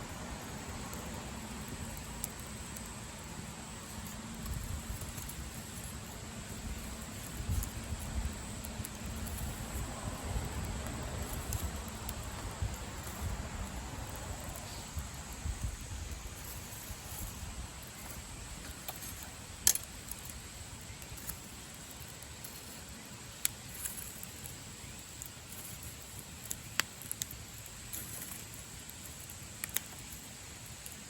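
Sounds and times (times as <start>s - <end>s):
campfire crackles and pops: 0.0s - 31.0s
campfire hiss: 0.0s - 31.0s.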